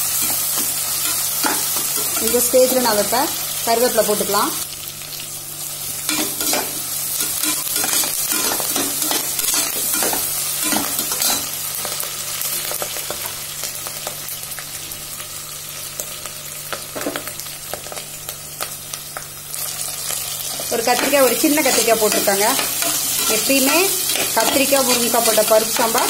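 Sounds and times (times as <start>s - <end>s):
vegetables sizzling in hot oil: 0.0s - 26.0s.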